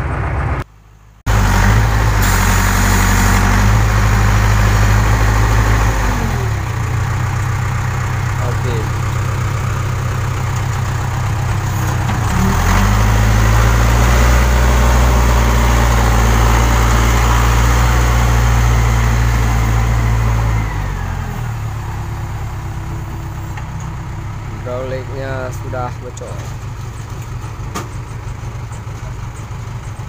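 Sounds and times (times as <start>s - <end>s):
diesel engine revving: 1.2s - 30.0s.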